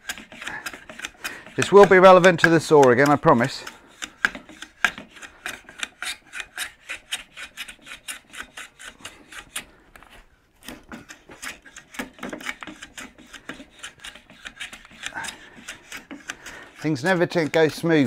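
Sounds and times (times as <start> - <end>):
hand plane shaving wood: 0.0 - 18.0.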